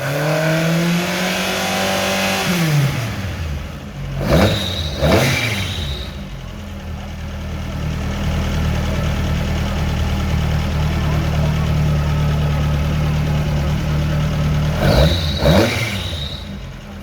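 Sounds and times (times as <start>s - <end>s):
engine throttle blips: 0.0s - 17.0s
rally car engine: 0.0s - 17.0s.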